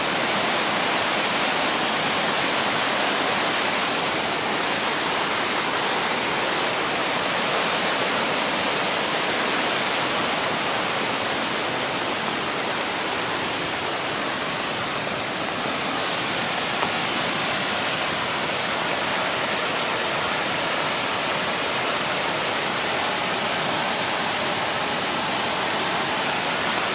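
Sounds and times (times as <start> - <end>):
stream rushing: 0.0 - 26.9.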